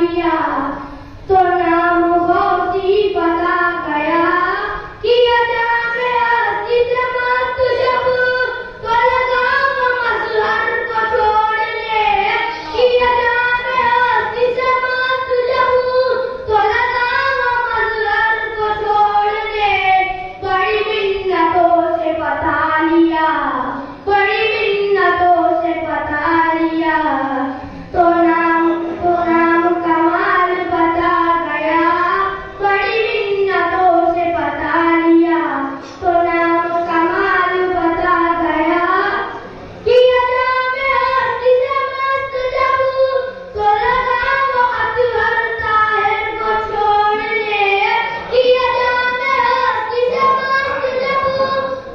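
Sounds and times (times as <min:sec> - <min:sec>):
boy singing unaccompanied: 0:00.0 - 0:51.9.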